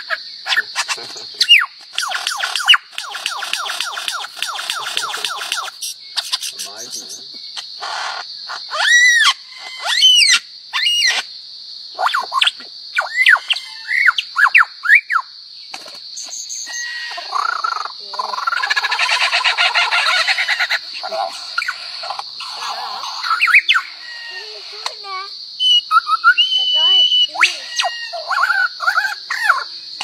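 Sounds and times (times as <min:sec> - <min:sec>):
lyrebird singing: 0:00.0 - 0:11.3, 0:11.9 - 0:30.0.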